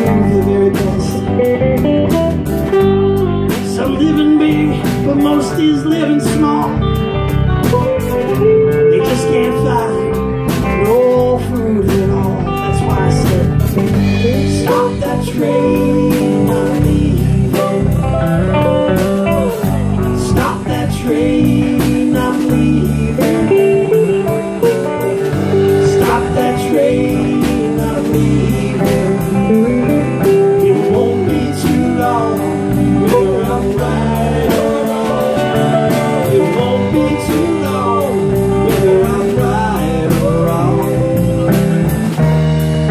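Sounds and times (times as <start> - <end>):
man singing: 0.0 - 2.8, 3.4 - 42.3
live rock band playing: 0.0 - 42.9.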